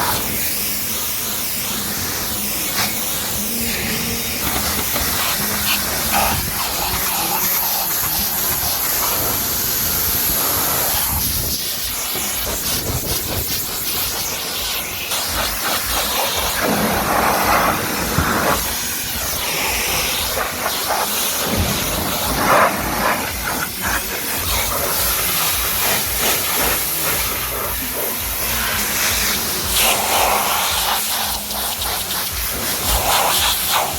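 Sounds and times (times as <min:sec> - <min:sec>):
pressure washer spraying car: 0:00.0 - 0:33.9.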